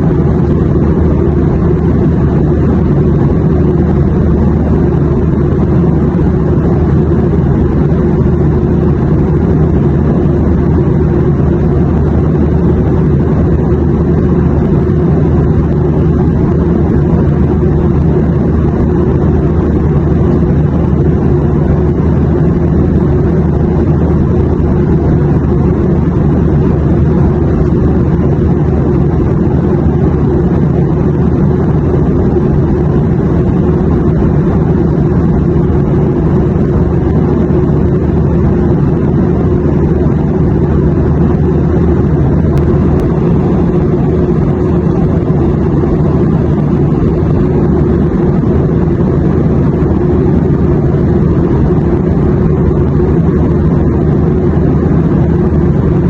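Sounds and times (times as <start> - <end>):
airplane drone: 0.0 - 56.0.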